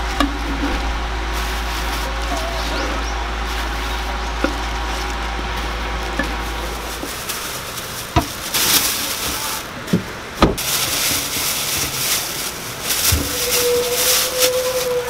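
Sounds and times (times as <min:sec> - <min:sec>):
plastic bags rustling: 0:00.0 - 0:15.0.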